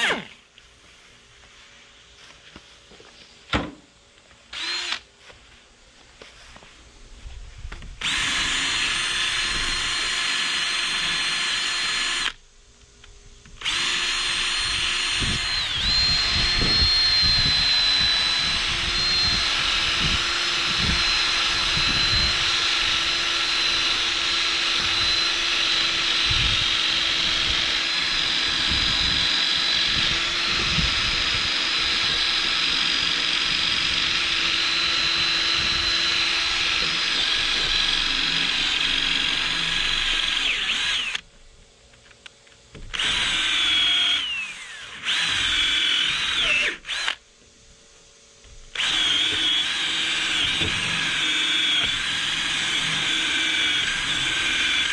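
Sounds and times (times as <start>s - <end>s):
power tool whine: 0.0s - 0.4s, 4.5s - 5.3s, 7.2s - 41.3s, 42.7s - 47.2s, 48.4s - 54.9s.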